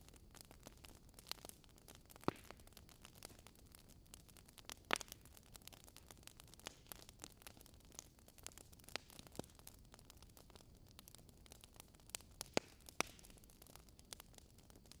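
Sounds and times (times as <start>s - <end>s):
campfire crackling: 0.0s - 15.0s
loud fire pops: 0.3s - 9.8s, 12.1s - 15.0s.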